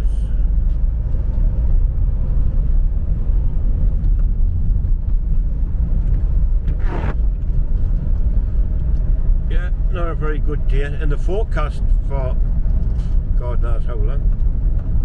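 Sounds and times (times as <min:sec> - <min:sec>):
car engine and tyres rumble: 0:00.0 - 0:15.0.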